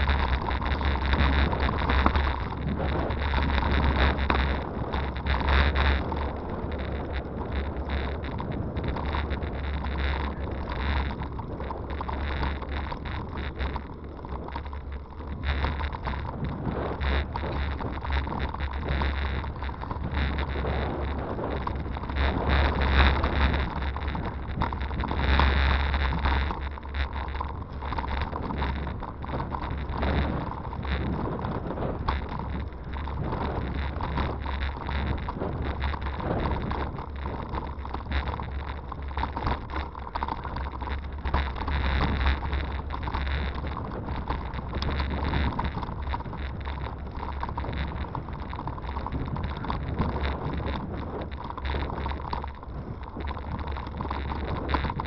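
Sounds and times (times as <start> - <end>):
bicycle riding over gravel: 0.0 - 55.0
small rattles and knocks: 0.0 - 55.0
wind buffeting microphone: 0.0 - 55.0.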